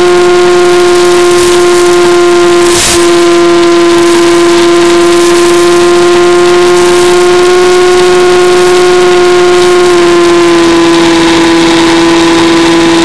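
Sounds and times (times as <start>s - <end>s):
electric motor and propeller whine: 0.0s - 13.0s.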